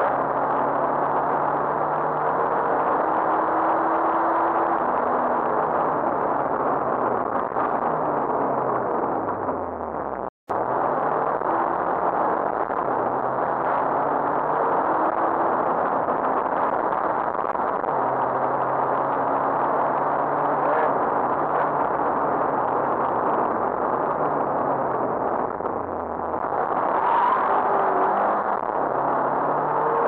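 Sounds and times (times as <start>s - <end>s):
car engine at speed: 0.0s - 30.0s
road and wind noise: 0.0s - 30.0s.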